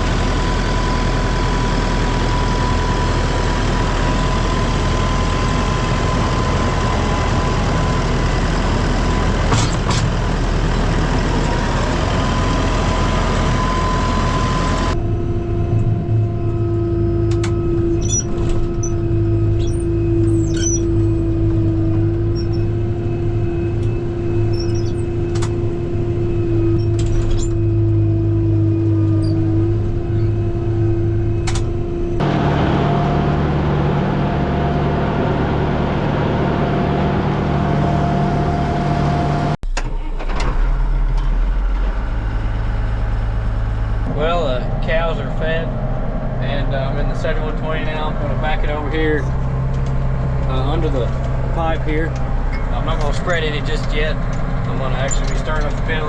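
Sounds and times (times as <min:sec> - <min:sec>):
farm machinery engines running: 0:00.0 - 0:56.0.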